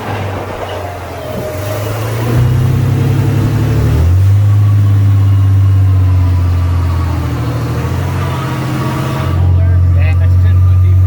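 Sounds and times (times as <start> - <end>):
truck engine under load: 0.0 - 11.0.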